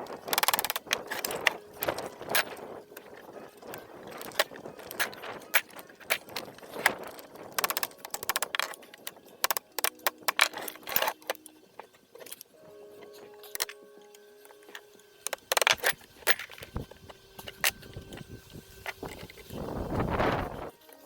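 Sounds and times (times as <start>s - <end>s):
metal tools clinking on engine parts: 0.0s - 19.7s.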